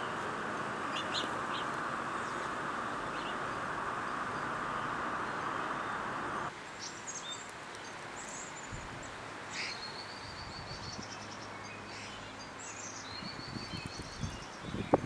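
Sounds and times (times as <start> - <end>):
steady hiss: 0.0 - 12.1
small birds chirping: 0.0 - 15.0.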